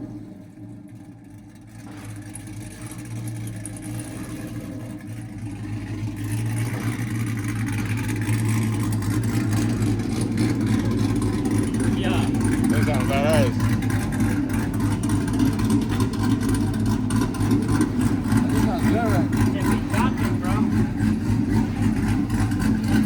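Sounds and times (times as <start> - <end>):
engine low exhaust note: 0.0 - 23.0.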